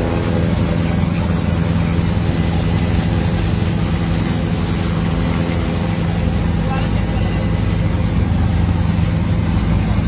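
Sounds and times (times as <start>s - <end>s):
helicopter engine and rotor: 0.0s - 10.0s.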